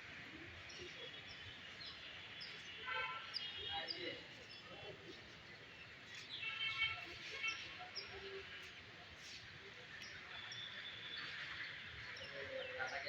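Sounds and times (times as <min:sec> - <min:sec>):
murmur of distant voices: 0:00.0 - 0:13.0.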